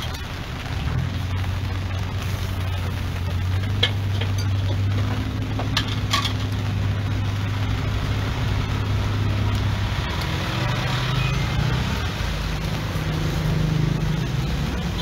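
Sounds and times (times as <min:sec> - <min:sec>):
low traffic engine hum: 0:00.0 - 0:15.0.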